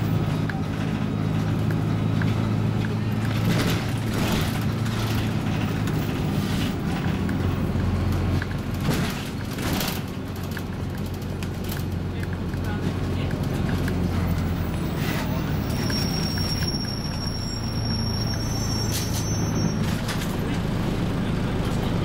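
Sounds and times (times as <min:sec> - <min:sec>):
bus engine drone: 0:00.0 - 0:22.0
road noise: 0:00.0 - 0:22.0.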